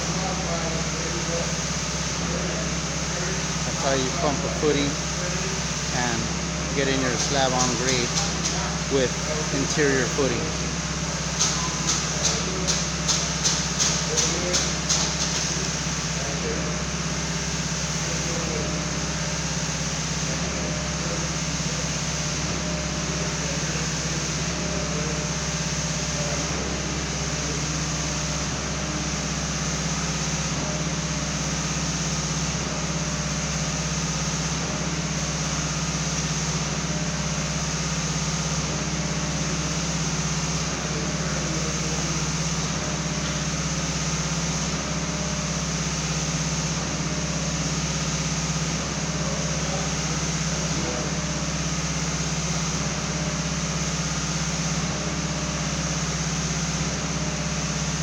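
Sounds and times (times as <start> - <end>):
pump engine running under load: 0.0 - 58.0.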